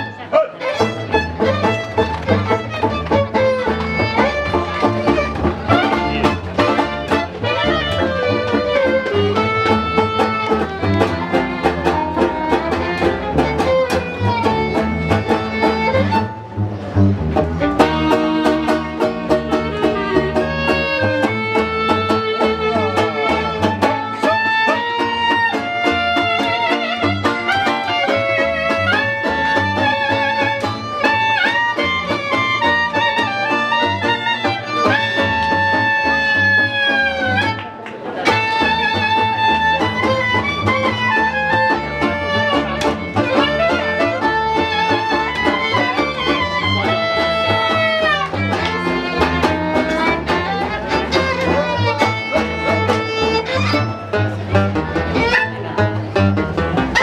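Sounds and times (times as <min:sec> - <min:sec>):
klezmer band playing: 0:00.0 - 0:57.0.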